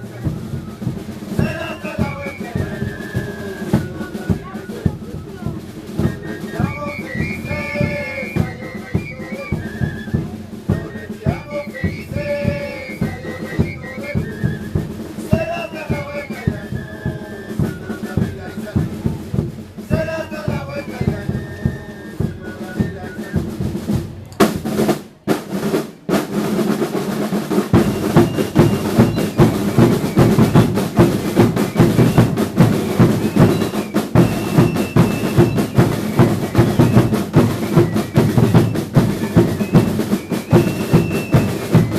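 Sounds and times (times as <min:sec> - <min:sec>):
voices singing or calling: 0:00.0 - 0:24.8, 0:25.6 - 0:41.9
drums beating fast rhythm: 0:00.0 - 0:41.9.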